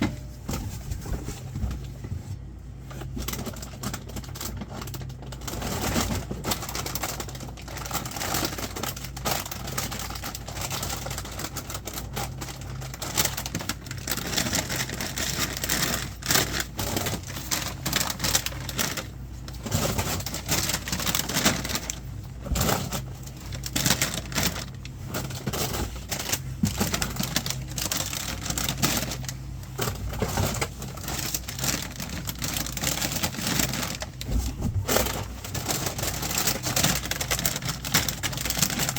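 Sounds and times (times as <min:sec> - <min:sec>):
packages and boxes being handled: 0:00.0 - 0:38.9
steady low hum: 0:00.0 - 0:38.9.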